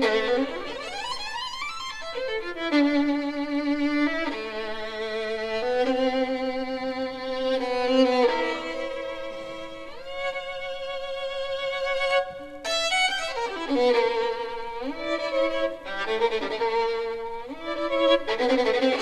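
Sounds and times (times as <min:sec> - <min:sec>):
violin playing slow notes: 0:00.0 - 0:19.0.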